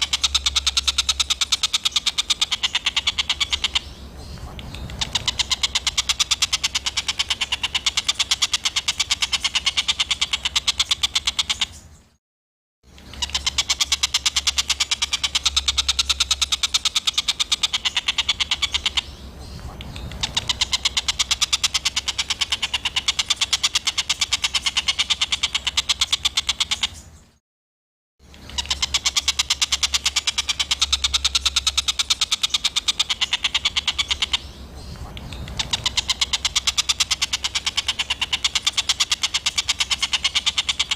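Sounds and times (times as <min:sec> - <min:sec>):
songbird clicking chatter: 0:00.0 - 0:12.1, 0:12.9 - 0:27.2, 0:28.3 - 0:40.9.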